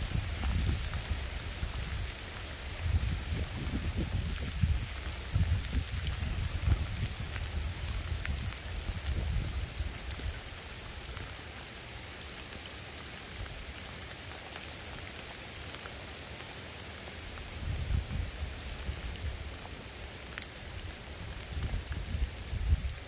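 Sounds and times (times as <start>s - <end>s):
rain falling on river: 0.0s - 23.0s.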